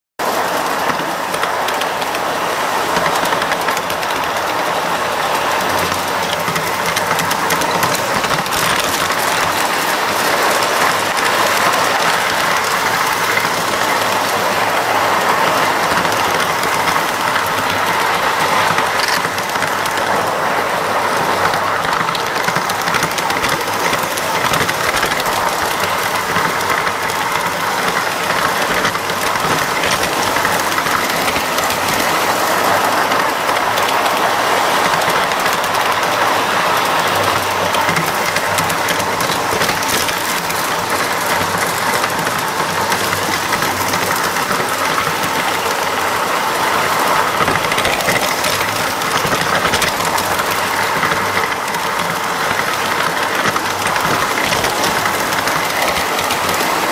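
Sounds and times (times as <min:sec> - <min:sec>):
model train whirring on rails: 0:00.2 - 0:56.9
track clicks: 0:00.2 - 0:56.9.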